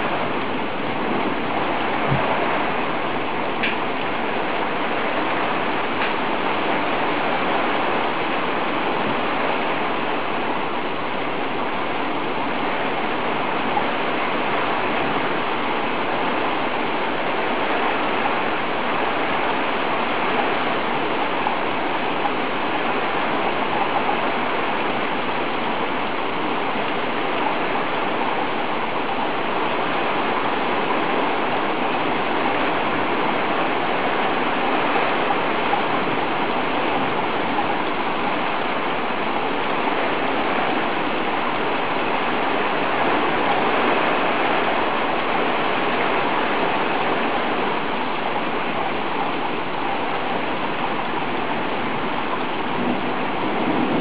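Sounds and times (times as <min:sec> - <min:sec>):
heavy rain on street and roofs: 0:00.0 - 0:54.0.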